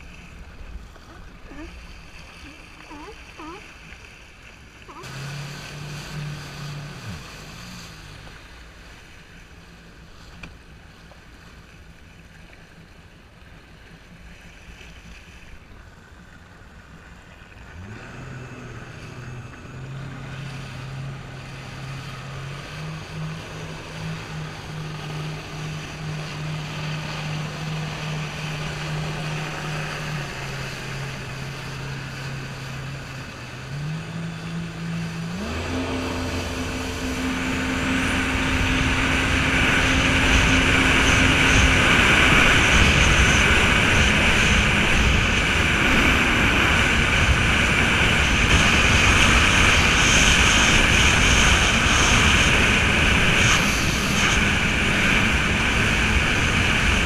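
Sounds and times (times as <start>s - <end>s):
wind and water spray rushing: 0.0s - 11.6s, 17.6s - 57.0s
jet ski engine: 0.0s - 57.0s.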